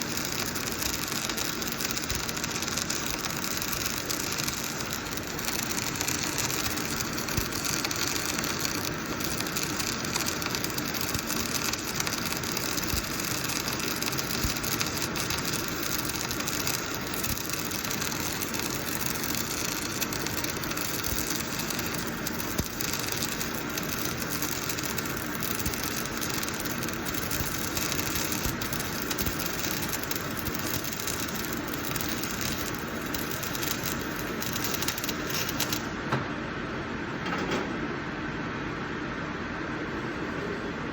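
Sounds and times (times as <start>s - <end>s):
welding arc crackling: 0.0s - 36.0s.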